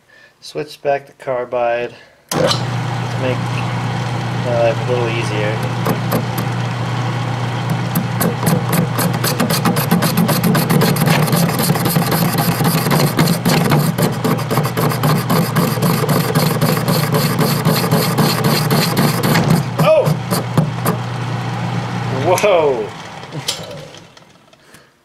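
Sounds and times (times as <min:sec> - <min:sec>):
lathe motor hum: 0:02.3 - 0:24.6.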